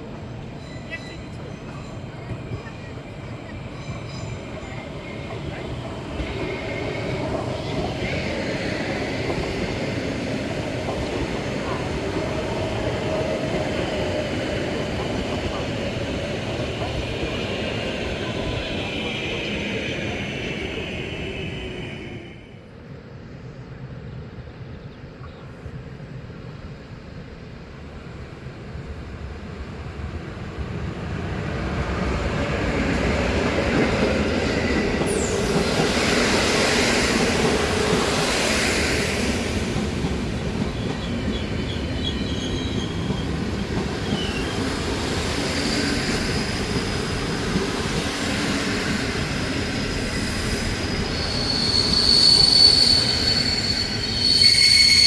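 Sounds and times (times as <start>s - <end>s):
train rumbling on rails: 0.0s - 55.0s
train wheel squeal: 0.4s - 22.4s, 32.8s - 55.0s.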